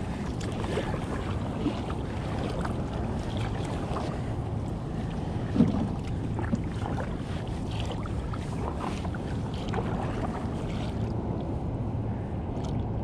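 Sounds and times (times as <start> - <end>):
paddle splashing water: 0.0 - 11.6.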